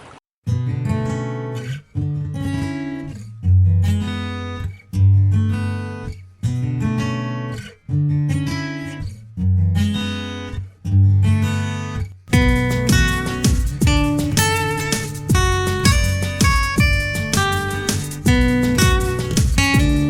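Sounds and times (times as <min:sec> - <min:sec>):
acoustic guitar strumming: 0:00.5 - 0:20.0.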